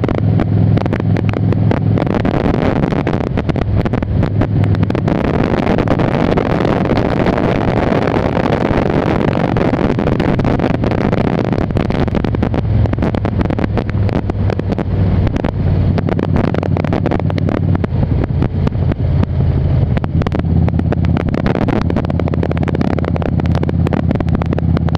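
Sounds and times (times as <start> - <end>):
motorcycle engine running: 0.0 - 24.9
wind buffeting microphone: 0.0 - 24.9.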